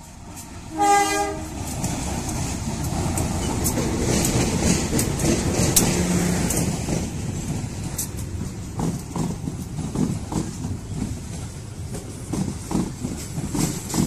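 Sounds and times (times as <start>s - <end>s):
diesel locomotive engine running: 0.0s - 14.0s
train wheels knocking over joints: 1.7s - 14.0s.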